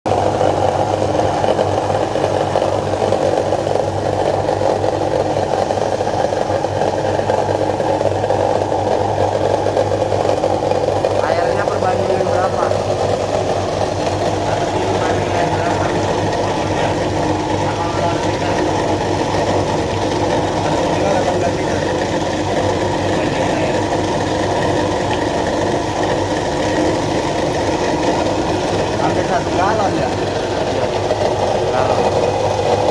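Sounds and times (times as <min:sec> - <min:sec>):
grinding machine motor whirring: 0:00.1 - 0:32.9.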